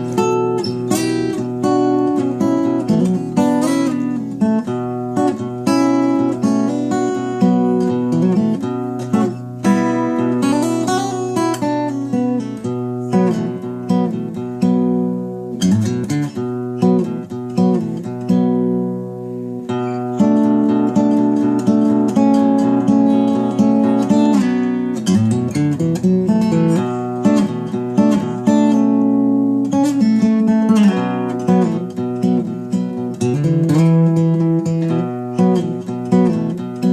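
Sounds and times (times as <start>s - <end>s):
acoustic guitar playing: 0.0s - 36.9s.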